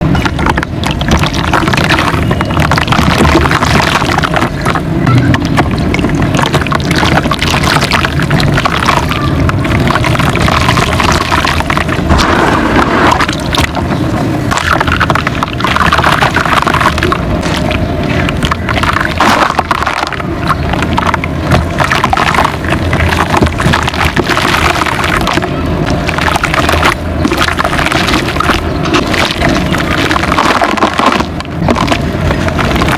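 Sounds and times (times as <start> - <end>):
low rumble: 0.0 - 32.9
mud crumbling in water: 0.0 - 32.9.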